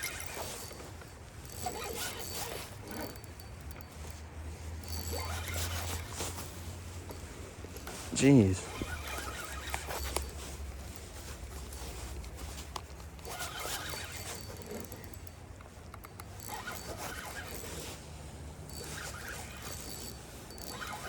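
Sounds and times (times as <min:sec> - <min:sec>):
fishing reel cranking whirr: 0:00.0 - 0:04.2, 0:04.8 - 0:06.4, 0:07.8 - 0:11.0, 0:11.9 - 0:18.0, 0:18.6 - 0:21.0.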